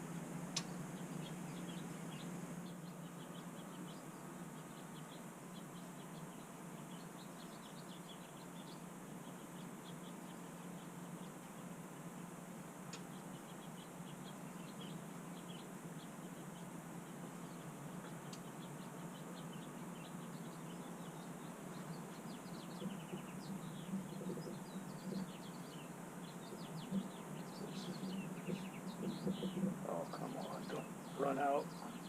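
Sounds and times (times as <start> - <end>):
small birds chirping: 0.0 - 32.0
steady low hum: 0.0 - 32.0.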